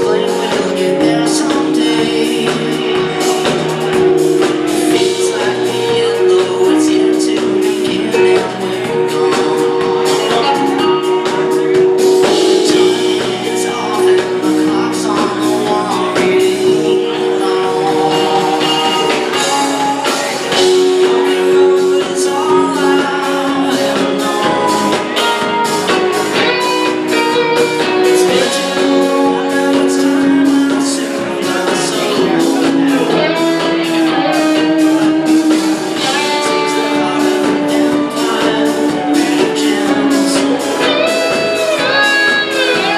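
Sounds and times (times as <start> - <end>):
electric guitars: 0.0 - 42.9
rock band playing live: 0.0 - 42.9
steady drum beat: 0.0 - 42.9.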